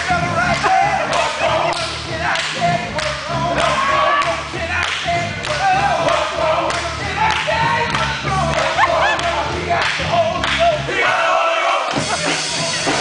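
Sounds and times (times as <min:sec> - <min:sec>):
lead male voice singing: 0:00.0 - 0:11.2
male vocal group singing: 0:00.0 - 0:13.0.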